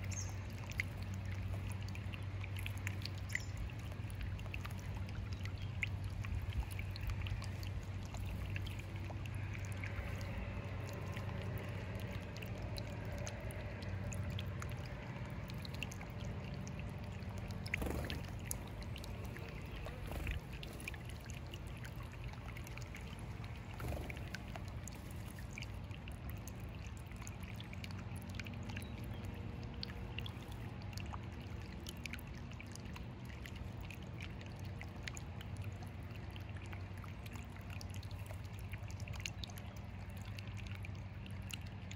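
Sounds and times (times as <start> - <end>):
steady low hum: 0.0 - 41.7
birds splashing in water: 0.0 - 41.9
fountain trickling and bubbling: 0.0 - 41.9.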